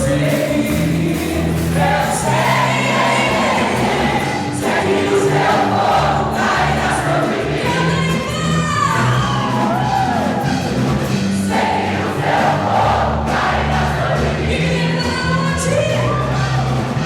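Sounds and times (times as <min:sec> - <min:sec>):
group of voices singing: 0:00.0 - 0:10.4, 0:11.2 - 0:17.0
steady bass notes: 0:00.0 - 0:17.0.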